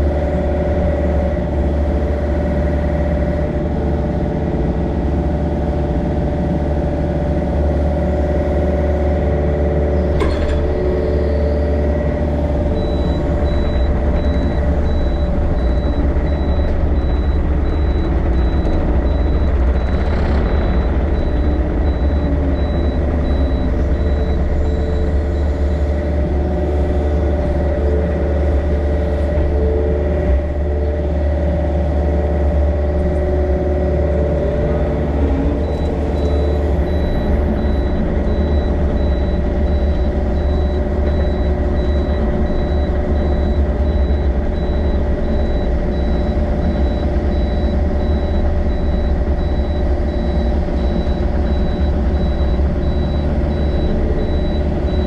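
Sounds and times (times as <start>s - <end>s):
excavator diesel engine running: 0.0s - 55.0s
steady whining tones: 10.0s - 55.0s.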